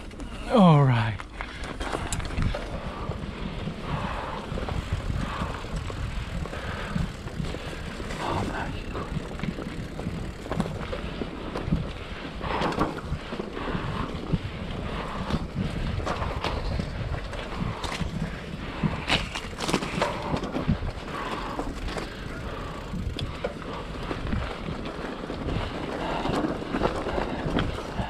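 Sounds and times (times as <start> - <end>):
bike tyres rumbling on dirt: 0.0 - 28.0
wind buffeting microphone: 1.2 - 28.0.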